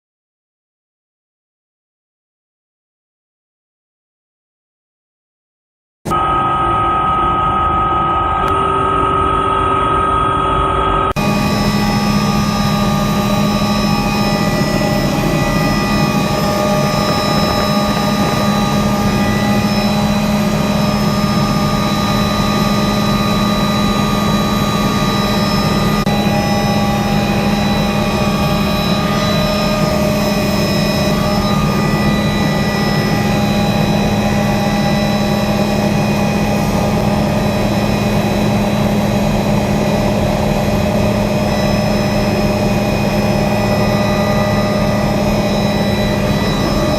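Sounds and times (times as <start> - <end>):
helicopter engine and rotors: 6.1 - 46.9.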